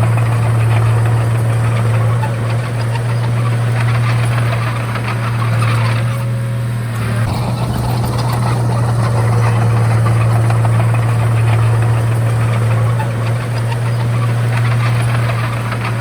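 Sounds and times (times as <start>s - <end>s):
dense rattle: 0.0s - 16.0s
diesel engine humming: 0.0s - 16.0s.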